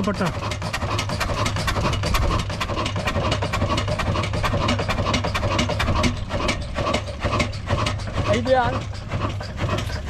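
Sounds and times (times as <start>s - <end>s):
diesel engine exhaust chuffing: 0.0s - 10.0s.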